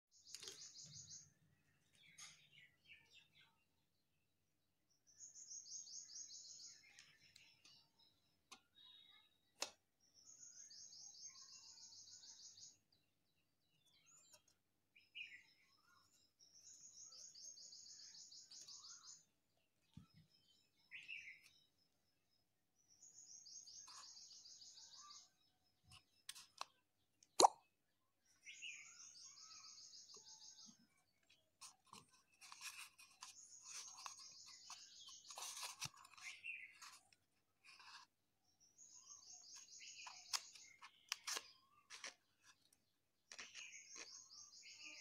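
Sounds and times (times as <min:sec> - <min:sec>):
bird chirps: 0:00.1 - 0:03.6, 0:04.9 - 0:45.0.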